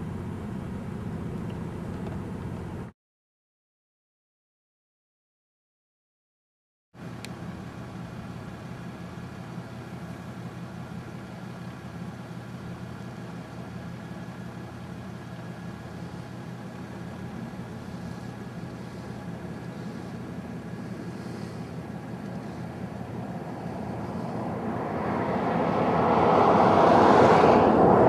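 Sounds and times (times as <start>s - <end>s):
road noise: 0.0s - 2.9s, 7.0s - 28.0s
vehicle engine hum: 0.0s - 2.9s, 7.0s - 28.0s.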